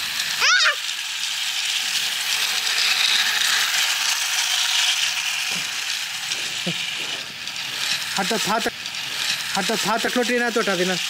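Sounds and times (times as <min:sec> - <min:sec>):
toy train motor and gears: 0:00.0 - 0:11.0.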